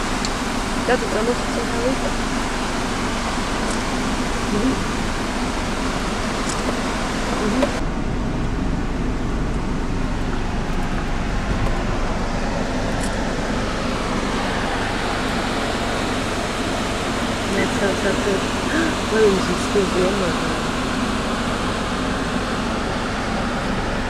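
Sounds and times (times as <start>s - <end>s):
car driving on gravel road: 0.0s - 24.0s.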